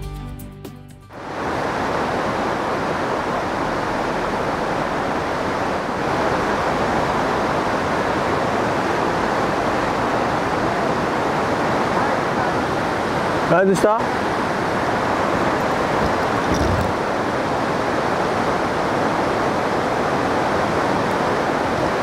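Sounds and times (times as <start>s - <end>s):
stream rushing over stones: 1.2s - 22.0s.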